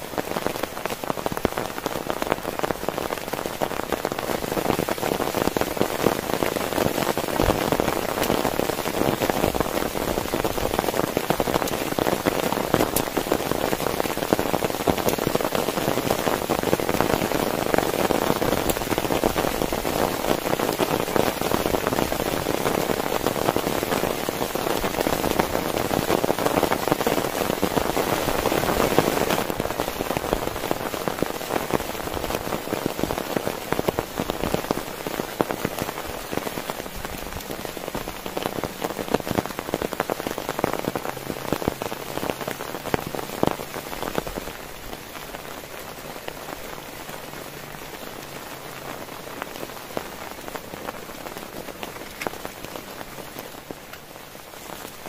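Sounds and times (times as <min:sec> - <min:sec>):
heavy rain pattering on a tent: 0:00.0 - 0:55.0.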